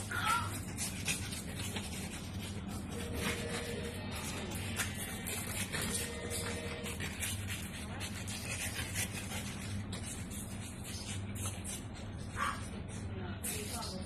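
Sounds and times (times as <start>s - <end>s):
claws scratching on tiles: 0.0s - 14.0s.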